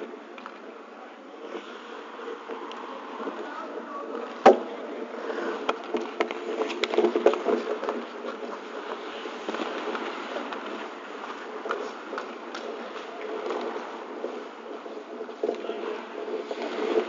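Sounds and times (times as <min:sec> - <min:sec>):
skates scraping ice: 0:00.0 - 0:17.0
sticks and pucks clacking: 0:01.4 - 0:17.0.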